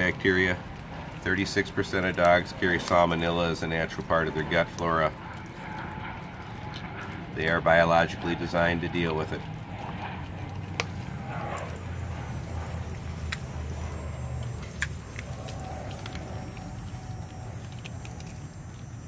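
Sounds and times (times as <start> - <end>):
puppies chewing: 0.0 - 19.0
steady low rumble: 0.0 - 19.0.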